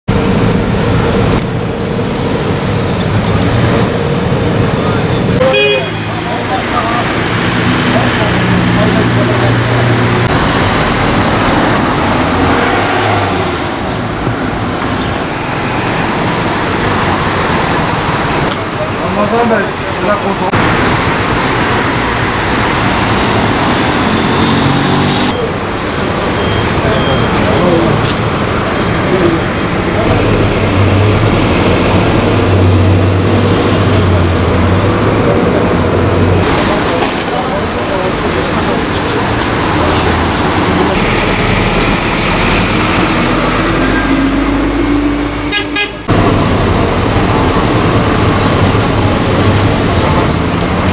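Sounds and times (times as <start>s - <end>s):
bus engine droning: 0.1s - 50.9s
street traffic noise: 0.1s - 50.9s.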